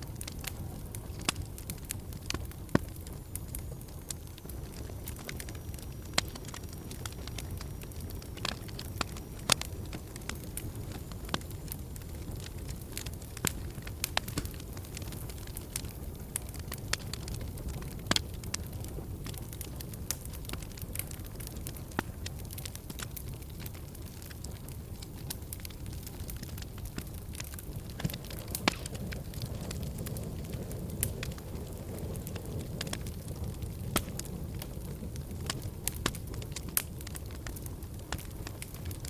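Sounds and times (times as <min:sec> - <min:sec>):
fire crackling and popping: 0:00.0 - 0:39.0
fire rumbling: 0:00.0 - 0:39.0.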